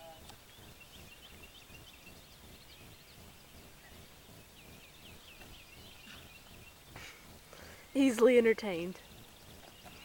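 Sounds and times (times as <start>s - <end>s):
birds chirping: 0.0s - 10.0s
low steady rumble: 0.0s - 10.0s.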